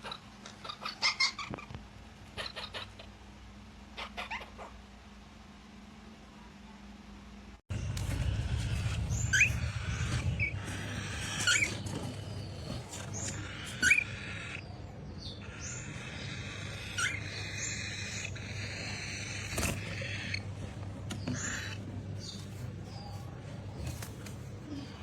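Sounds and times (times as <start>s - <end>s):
steady low hum: 1.6s - 25.0s.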